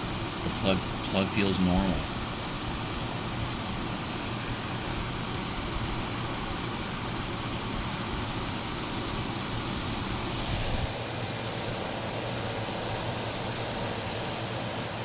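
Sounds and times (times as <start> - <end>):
compressor humming: 0.0 - 15.0
dehumidifier fan airflow: 0.0 - 15.0.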